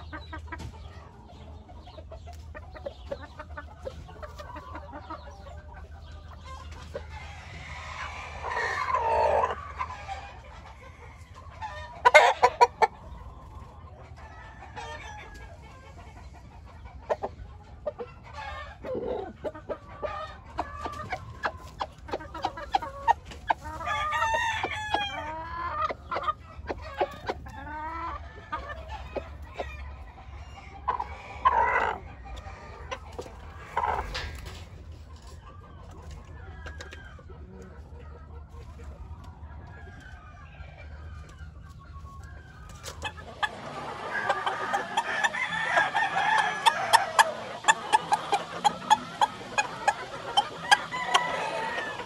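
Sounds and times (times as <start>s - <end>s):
roosters clucking and crowing: 0.0s - 52.0s.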